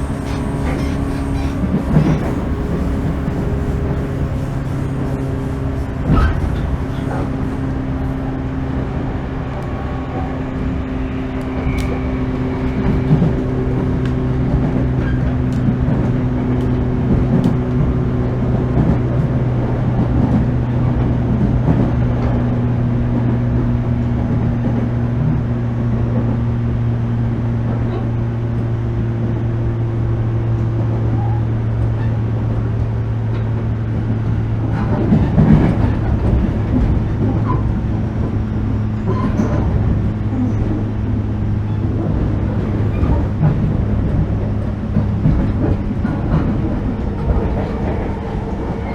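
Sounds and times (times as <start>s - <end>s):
electric train hum: 0.0s - 48.9s.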